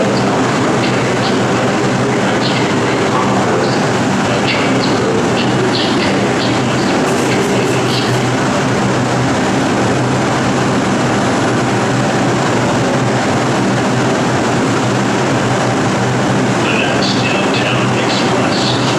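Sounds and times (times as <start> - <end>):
subway train humming and hissing: 0.0 - 18.9.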